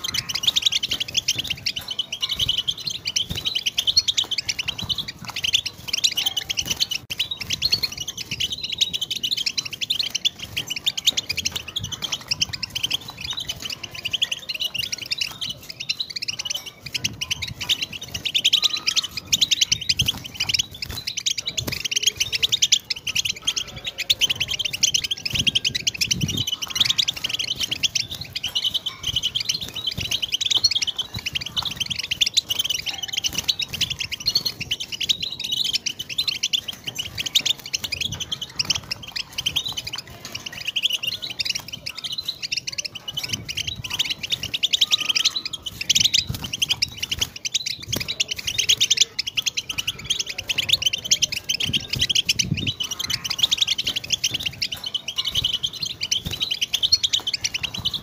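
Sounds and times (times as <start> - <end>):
goldfinch twittering song: 0.0 - 58.0.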